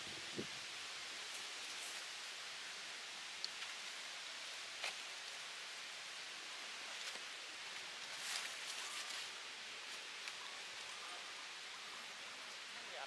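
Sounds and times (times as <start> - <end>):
rustles and crackles: 0.0 - 13.0
steady outdoor hiss: 0.0 - 13.0.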